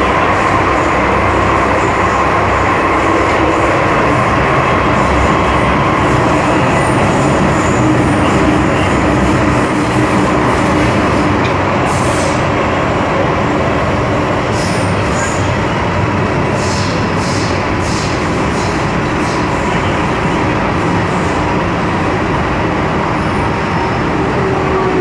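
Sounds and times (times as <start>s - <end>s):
metro train rumbling: 0.0s - 25.0s.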